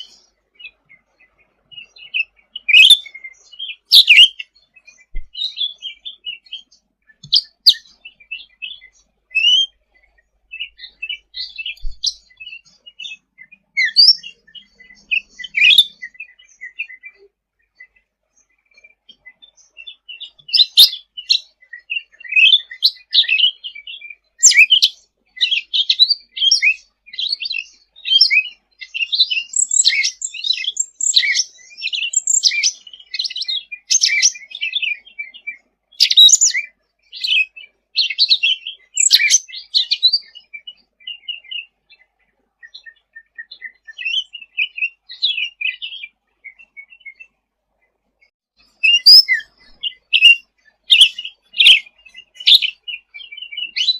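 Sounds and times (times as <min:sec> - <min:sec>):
songbird chattering and twittering: 0:00.0 - 0:47.4, 0:48.6 - 0:53.9.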